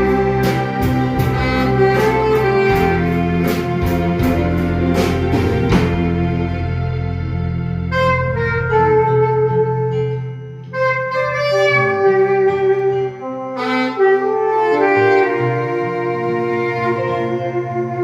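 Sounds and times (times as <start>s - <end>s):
keyboard and bass guitar backing: 0.0s - 18.0s
saxophone slow melody: 0.0s - 18.0s.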